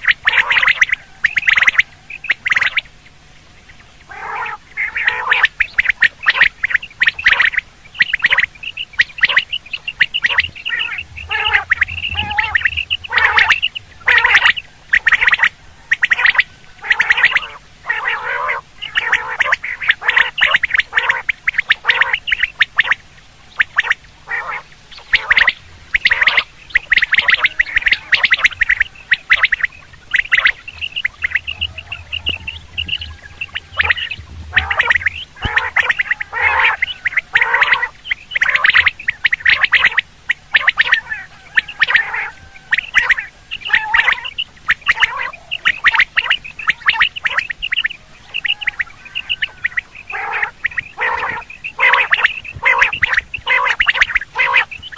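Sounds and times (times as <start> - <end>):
quail calling: 0.0 - 54.9.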